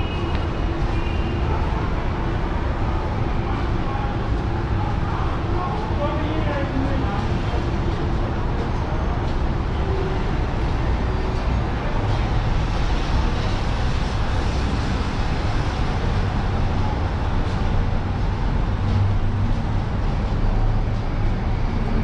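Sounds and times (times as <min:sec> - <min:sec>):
dense road traffic rumble: 0:00.0 - 0:22.0.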